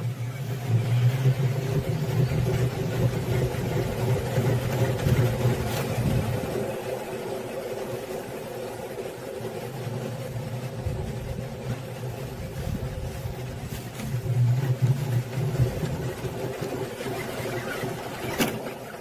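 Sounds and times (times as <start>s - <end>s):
honey extractor spinning hum: 0.0s - 19.0s.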